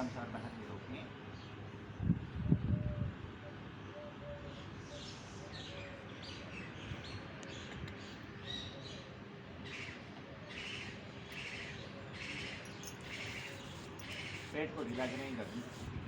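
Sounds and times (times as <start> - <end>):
birds chirping: 0.0 - 15.9
harsh bird calls: 1.3 - 15.8.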